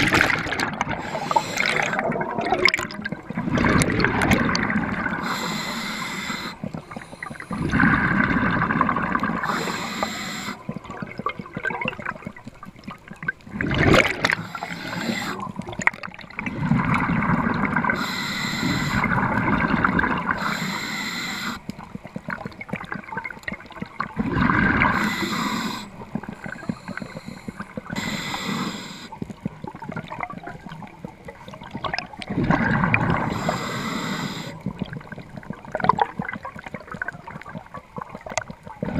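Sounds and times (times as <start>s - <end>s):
underwater rushing and gurgling: 0.0s - 38.9s.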